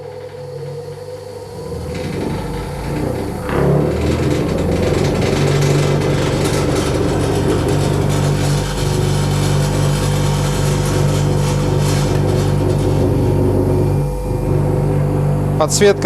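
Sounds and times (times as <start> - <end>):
bench grinder humming: 0.0 - 16.0
table vibrating: 0.0 - 16.0.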